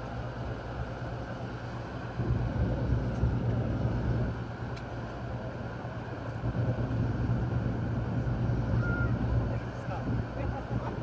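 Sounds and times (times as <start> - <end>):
boat engines droning: 0.0 - 11.0
rushing air and water: 0.0 - 11.0.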